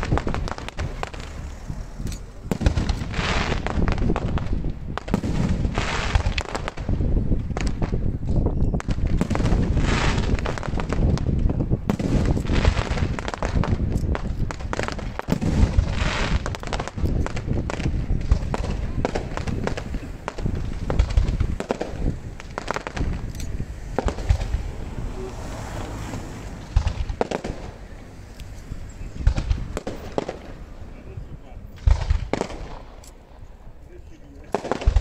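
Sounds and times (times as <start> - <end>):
firework bursts and bangs: 0.0 - 28.2, 28.8 - 35.0
firework crackling: 0.0 - 35.0.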